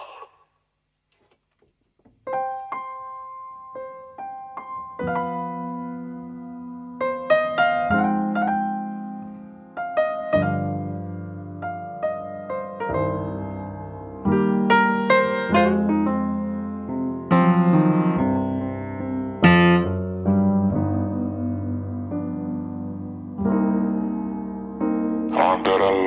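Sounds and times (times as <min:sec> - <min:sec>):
blues piano playing: 0:02.2 - 0:26.0.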